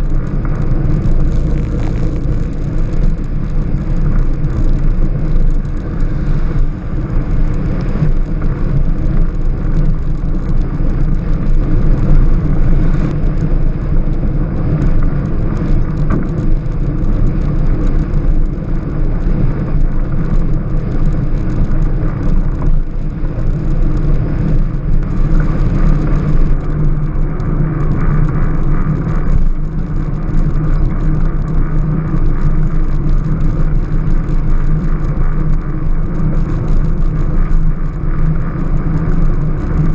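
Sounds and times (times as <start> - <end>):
velomobile tyre and wind rumble: 0.0 - 39.9.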